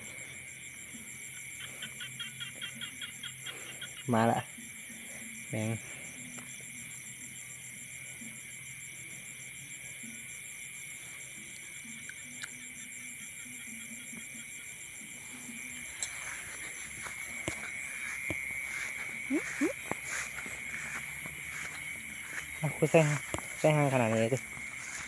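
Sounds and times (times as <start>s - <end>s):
insects and frogs trilling: 0.0s - 25.0s.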